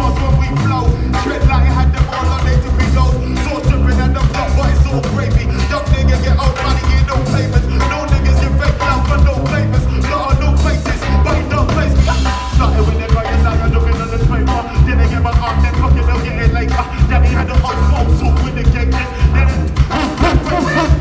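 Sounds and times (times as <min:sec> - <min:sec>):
drums: 0:00.0 - 0:21.0
person rapping into microphone: 0:00.0 - 0:21.0
saxophone: 0:00.0 - 0:21.0
tuba bass line: 0:00.0 - 0:21.0.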